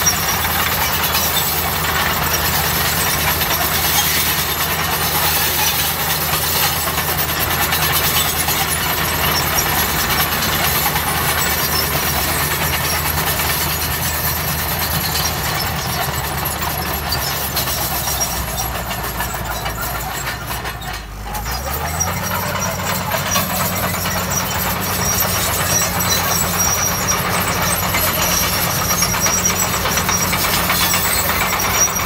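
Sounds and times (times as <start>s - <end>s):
bulldozer diesel engine running: 0.0s - 32.0s
continuous metallic clatter: 0.0s - 32.0s.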